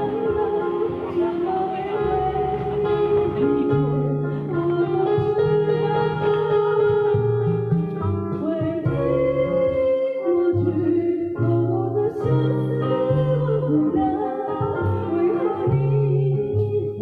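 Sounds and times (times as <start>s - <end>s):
woman singing: 0.0s - 7.2s, 8.2s - 17.0s
live band music: 0.0s - 16.8s
bass line: 0.0s - 17.0s.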